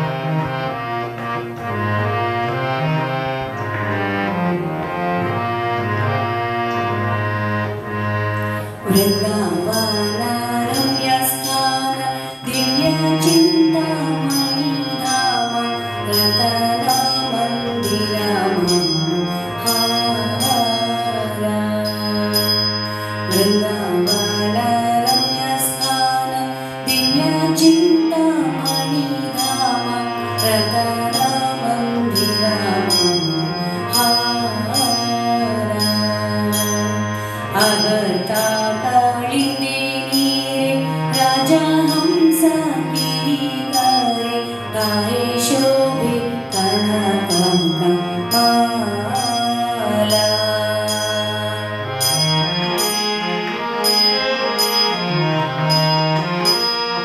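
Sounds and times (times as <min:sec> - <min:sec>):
devotional song melody: 0:00.0 - 0:57.0.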